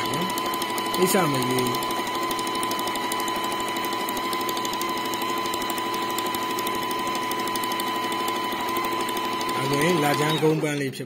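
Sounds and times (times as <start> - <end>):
sewing machine motor whine: 0.0 - 11.0.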